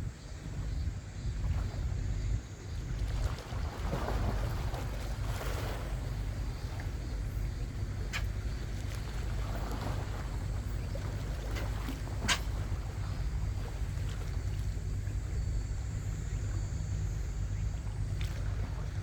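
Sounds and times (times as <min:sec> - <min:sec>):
wind buffeting microphone: 0:00.0 - 0:19.0
waves washing: 0:03.0 - 0:19.0.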